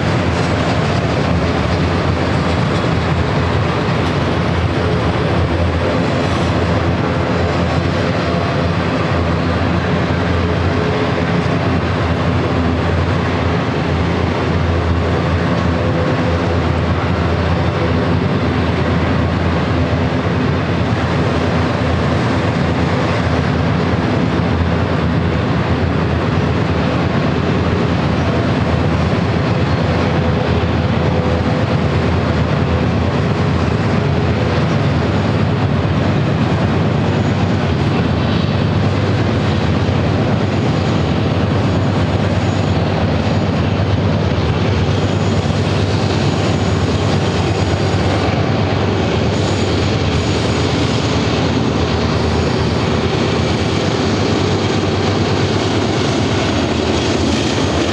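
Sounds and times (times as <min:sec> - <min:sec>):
freight train rolling past: 0:00.0 - 0:57.9.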